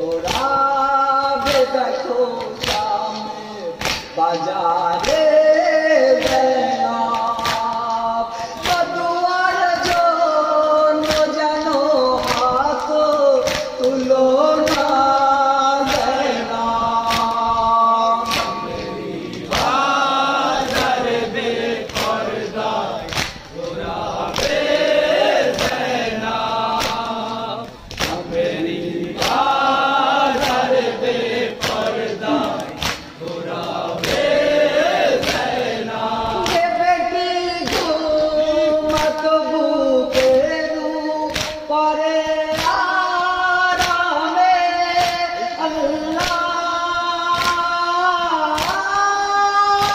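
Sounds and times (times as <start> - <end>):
men chanting in unison: 0.0 - 49.9.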